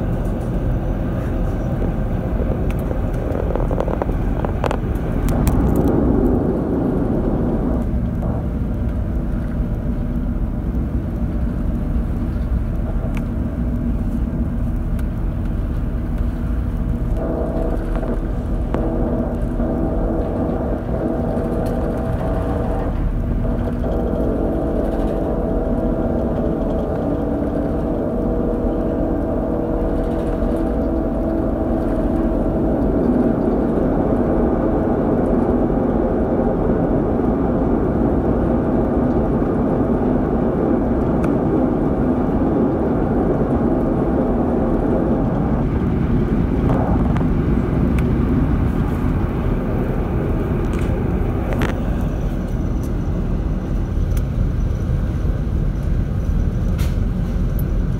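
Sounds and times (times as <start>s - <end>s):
faint steady hum: 0.0s - 57.9s
ship engine rumble: 0.0s - 57.9s.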